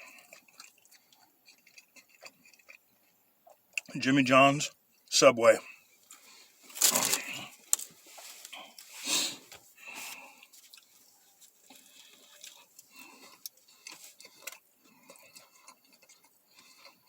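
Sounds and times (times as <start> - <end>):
person chewing: 0.0 - 4.0, 5.7 - 17.0.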